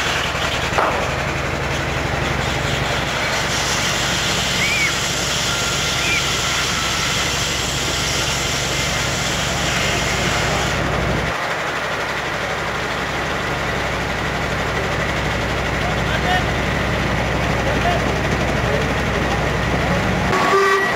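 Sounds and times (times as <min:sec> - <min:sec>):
steam machinery running: 0:00.0 - 0:20.9.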